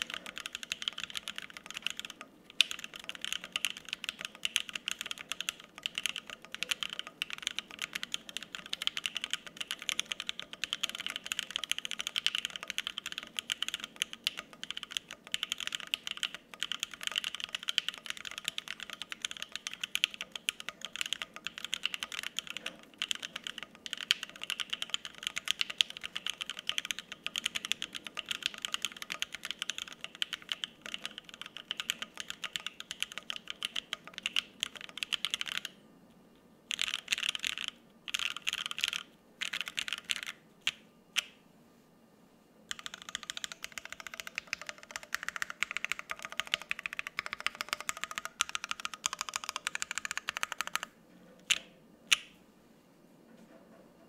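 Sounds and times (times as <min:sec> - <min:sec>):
mechanical keyboard typing: 0:00.0 - 0:35.8, 0:36.7 - 0:41.3, 0:42.7 - 0:52.3.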